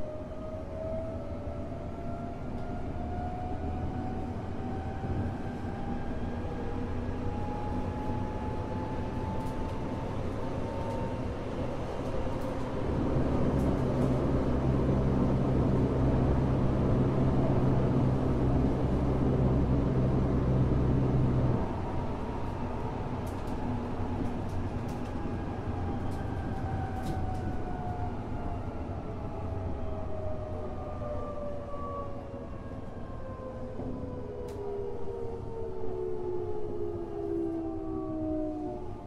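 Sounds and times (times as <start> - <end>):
train inverter and motor whine: 0.0 - 39.0.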